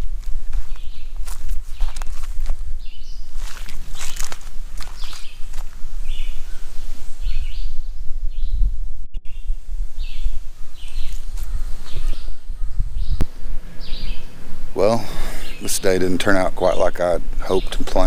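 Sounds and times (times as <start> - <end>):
wind buffeting microphone: 0.0 - 18.0
bird chirping: 0.6 - 2.2, 2.8 - 18.0.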